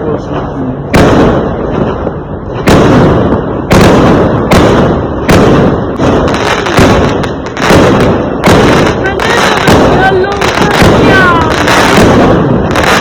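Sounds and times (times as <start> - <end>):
fireworks exploding: 0.3 - 13.0.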